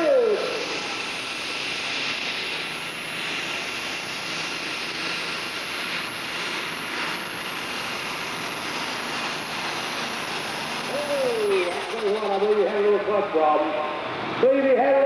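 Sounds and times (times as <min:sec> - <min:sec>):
high whine: 0:00.0 - 0:15.0
tractor engine under heavy load: 0:00.0 - 0:15.0.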